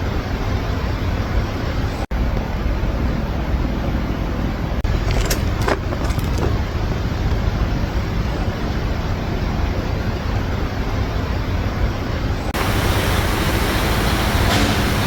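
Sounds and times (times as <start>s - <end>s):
steady noisy rumble: 0.0s - 15.0s.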